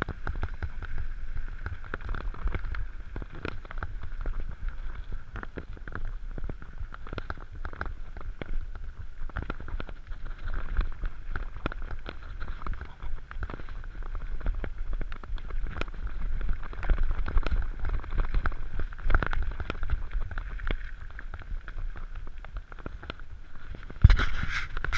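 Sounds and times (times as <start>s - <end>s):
wind on microphone: 0.0s - 24.9s.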